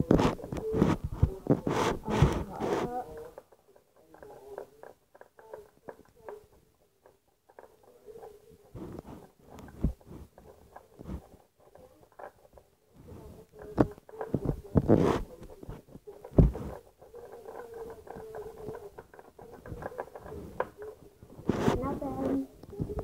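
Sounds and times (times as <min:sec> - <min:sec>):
toy handling taps and rustling: 0:00.0 - 0:23.0.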